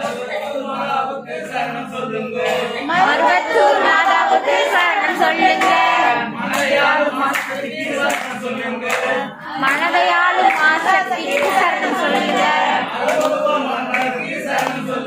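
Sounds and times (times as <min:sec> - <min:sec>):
group singing devotional song: 0:00.0 - 0:15.0.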